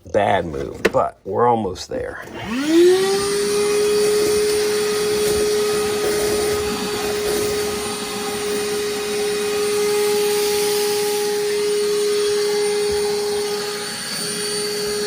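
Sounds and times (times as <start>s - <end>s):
vacuum motor whining: 2.1s - 15.0s.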